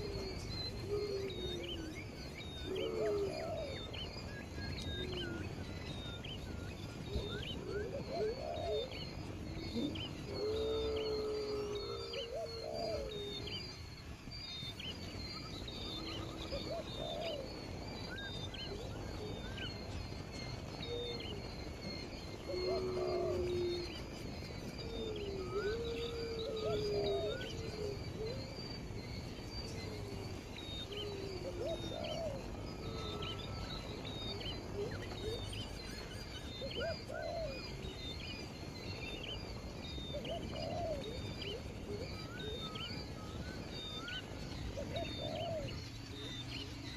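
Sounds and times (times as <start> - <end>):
low hooting bird calls: 0.0 - 46.9.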